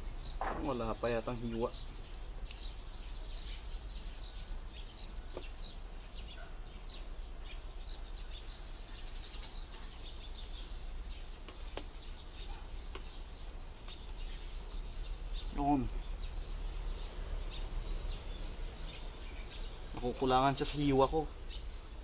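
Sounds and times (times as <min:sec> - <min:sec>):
faint bird chirps: 0:00.0 - 0:22.0.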